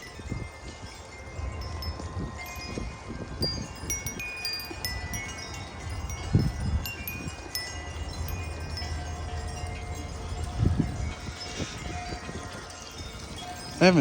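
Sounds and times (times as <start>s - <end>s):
low wind rumble: 0.0s - 14.0s
metal wind chimes ringing: 0.0s - 14.0s.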